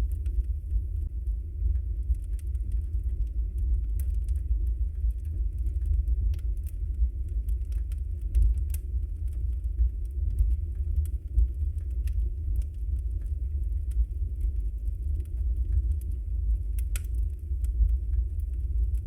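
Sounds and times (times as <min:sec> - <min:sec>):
fire crackling and popping: 0:00.0 - 0:19.0
log fire rumbling: 0:00.0 - 0:19.0.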